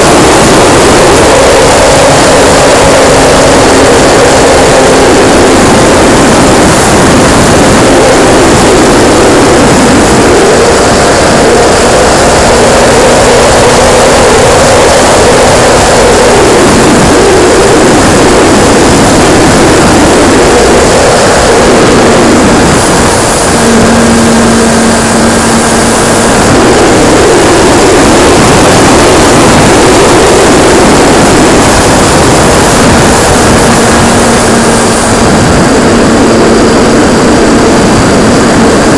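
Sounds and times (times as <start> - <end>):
model airplane motor and propeller: 0.0 - 38.9
wind rushing over microphone: 0.0 - 38.9.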